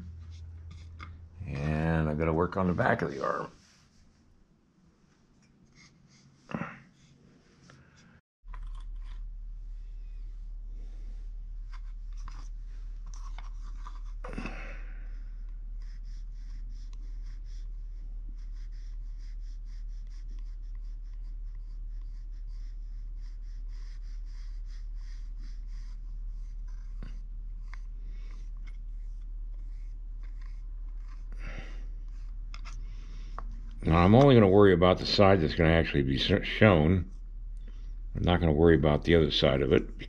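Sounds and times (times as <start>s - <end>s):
tool scraping modelling clay: 0.0s - 4.2s, 5.4s - 37.2s
low electrical hum: 0.0s - 5.7s, 7.8s - 40.0s.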